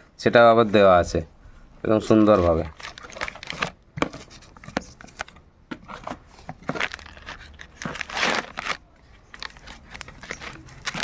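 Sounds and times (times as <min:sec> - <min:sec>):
packaging rustling and crinkling: 0:01.8 - 0:11.0.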